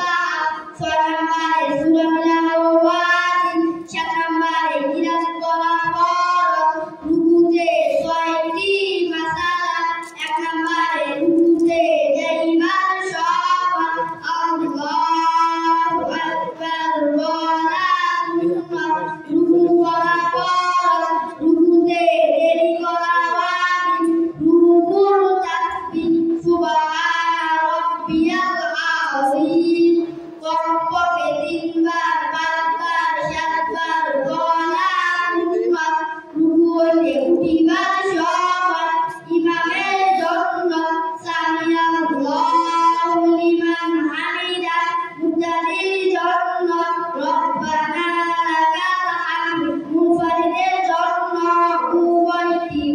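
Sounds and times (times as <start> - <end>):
boys singing unaccompanied: 0.0 - 52.9.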